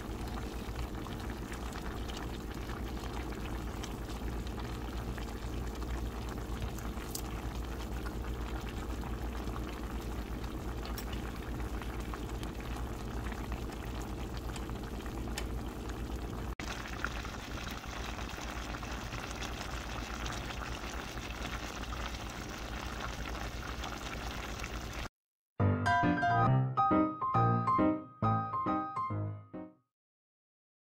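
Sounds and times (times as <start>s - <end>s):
sauce bubbling with small pops: 0.1s - 25.1s.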